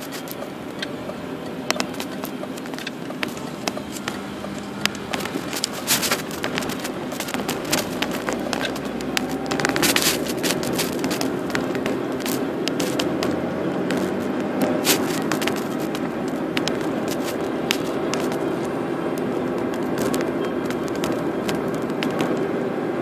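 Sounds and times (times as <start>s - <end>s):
car engine and tyre noise: 0.0s - 23.0s
sharp clicks and rattles: 0.0s - 23.0s.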